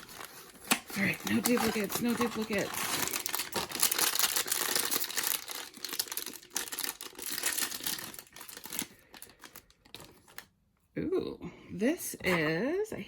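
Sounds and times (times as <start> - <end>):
packaging crinkling and rustling: 0.0 - 10.5
packaging tearing: 0.0 - 10.5.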